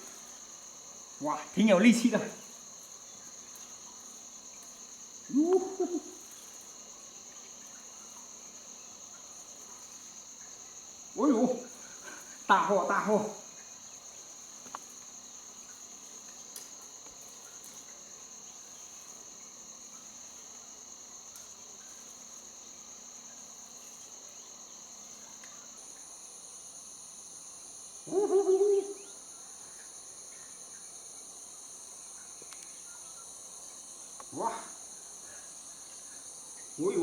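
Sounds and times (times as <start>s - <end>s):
higher-pitched insect: 0.0s - 37.0s
insects shrilling: 0.0s - 37.0s.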